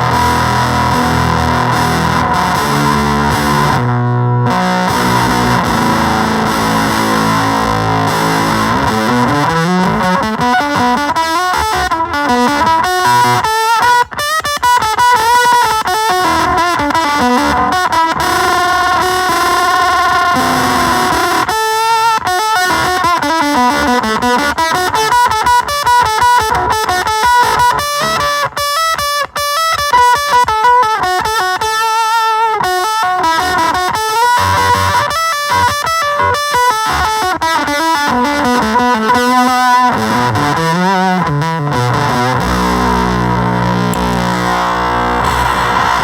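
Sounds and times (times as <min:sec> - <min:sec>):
distorted electric guitar: 0:00.0 - 0:46.0.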